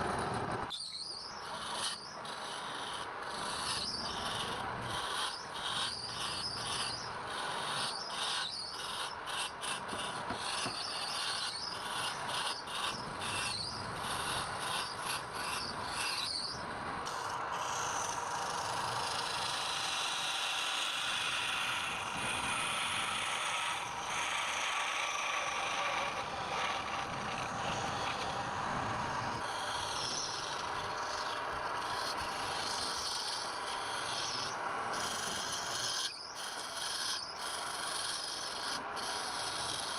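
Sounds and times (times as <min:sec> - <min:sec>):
rough rubbing hiss on spinning wood: 0:01.5 - 0:39.9
tool scraping wood on lathe: 0:01.5 - 0:39.9.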